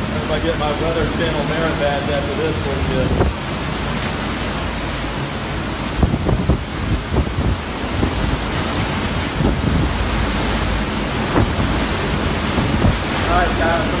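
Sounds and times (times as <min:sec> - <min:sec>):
wind and driving rain: 0:00.0 - 0:14.0
wind gusts buffeting microphone: 0:00.0 - 0:14.0.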